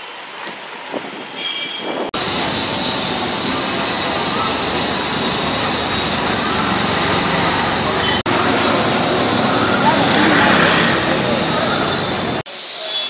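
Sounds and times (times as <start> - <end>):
city traffic engines: 0.1 - 13.0.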